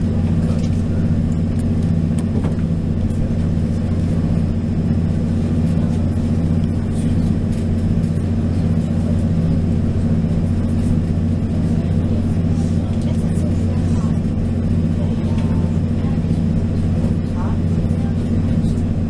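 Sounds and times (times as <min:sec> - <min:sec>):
diesel engine drone: 0:00.0 - 0:19.0
wheels rumbling on track: 0:00.0 - 0:19.0.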